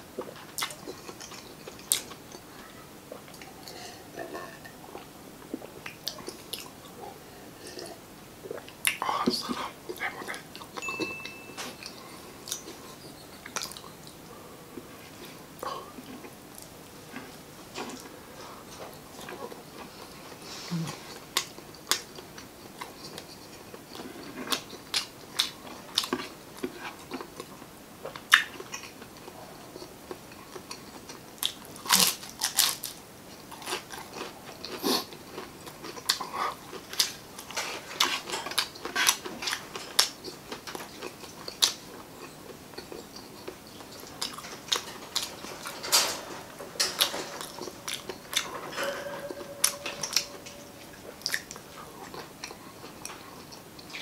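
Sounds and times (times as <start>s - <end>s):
chewing and crunching food: 0.0s - 11.0s, 11.6s - 54.0s.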